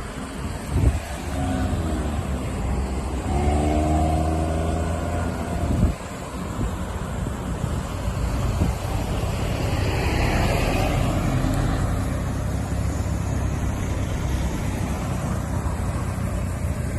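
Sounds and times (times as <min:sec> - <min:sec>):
car engine driving: 0:00.0 - 0:16.9
road noise: 0:00.0 - 0:16.9.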